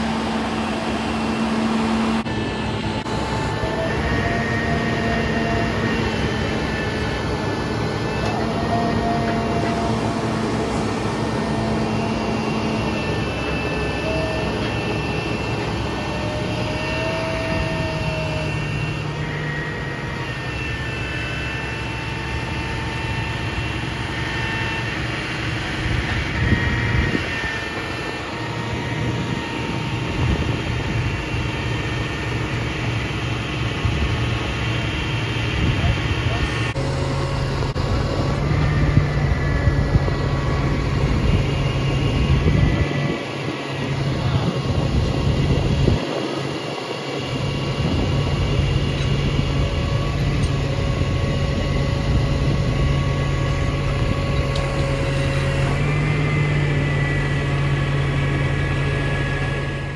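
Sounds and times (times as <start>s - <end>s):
hydraulics whining: 0.0s - 59.9s
truck engine running: 0.0s - 59.9s.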